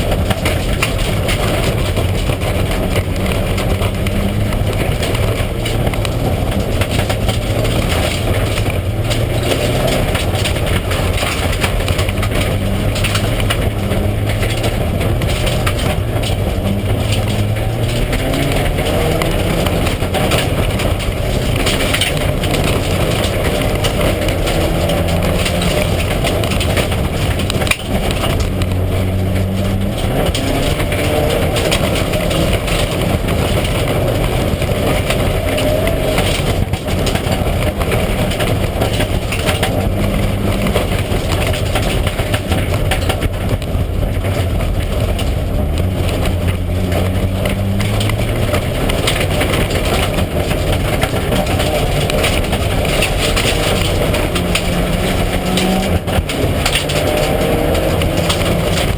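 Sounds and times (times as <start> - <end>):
car engine revving hard: 0.0 - 58.9
road and tyre noise: 0.0 - 58.9.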